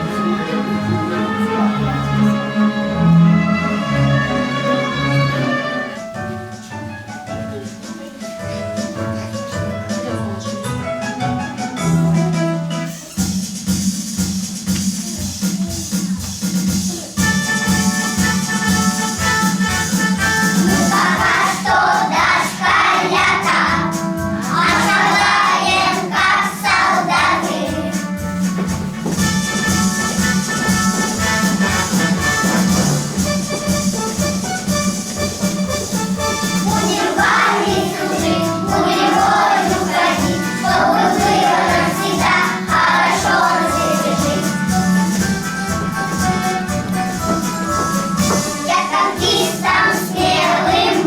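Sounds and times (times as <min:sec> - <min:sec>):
young children singing: 0:00.0 - 0:09.7, 0:16.8 - 0:51.0
backing track with steady beat: 0:00.0 - 0:51.0.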